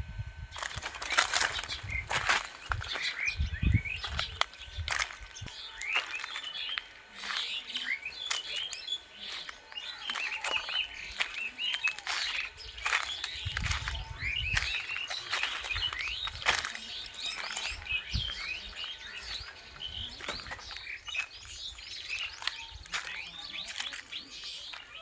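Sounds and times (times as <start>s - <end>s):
small birds chirping: 0.5s - 25.0s.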